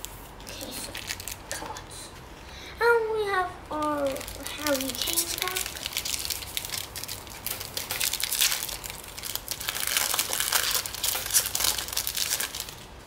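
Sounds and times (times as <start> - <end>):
foil wrapper crinkling: 0.0 - 1.8, 3.7 - 13.0.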